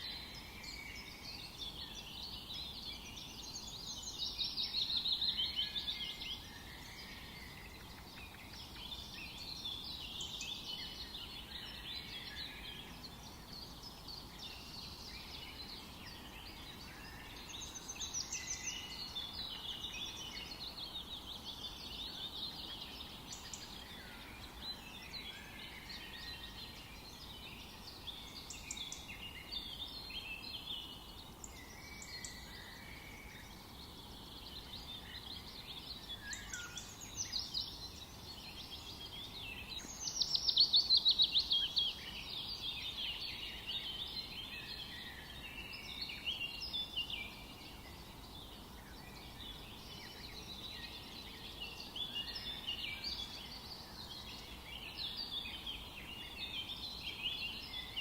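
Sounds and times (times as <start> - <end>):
faint steady background hiss: 0.0 - 58.0
songbirds singing and chirping: 0.0 - 58.0.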